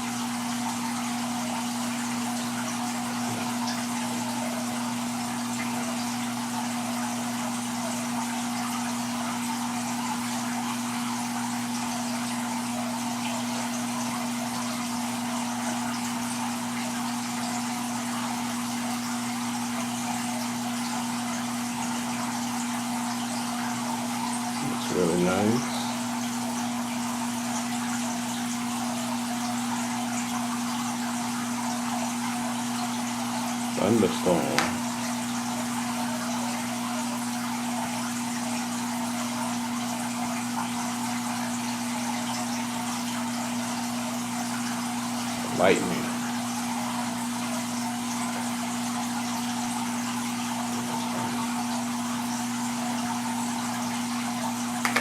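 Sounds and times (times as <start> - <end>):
pump humming: 0.0 - 55.0
water trickling and splashing: 0.0 - 55.0.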